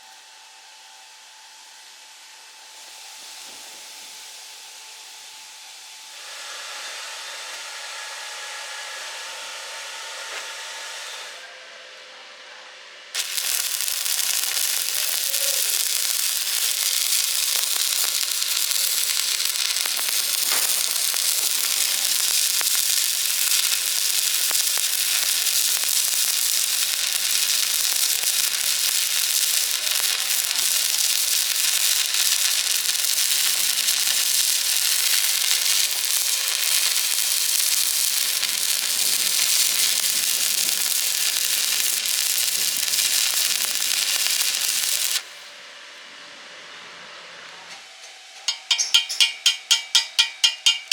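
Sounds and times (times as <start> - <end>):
welding arc crackling hiss: 1.2 - 11.4, 13.2 - 45.6, 48.4 - 50.9.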